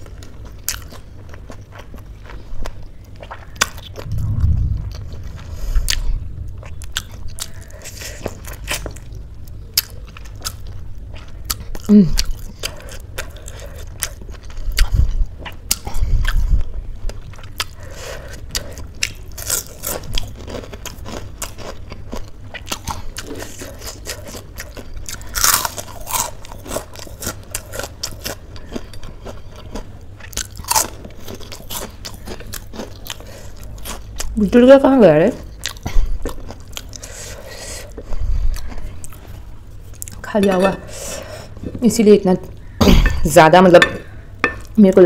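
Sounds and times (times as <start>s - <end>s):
person chewing noodles: 0.0s - 4.1s, 6.6s - 34.3s, 35.5s - 40.2s.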